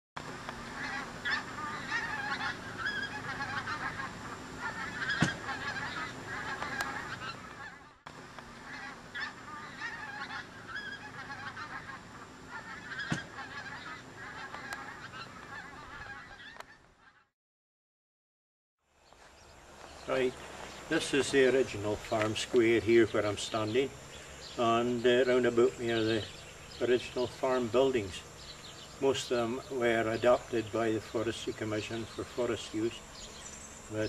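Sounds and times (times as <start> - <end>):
geese honking: 0.3 - 17.3, 19.8 - 34.0.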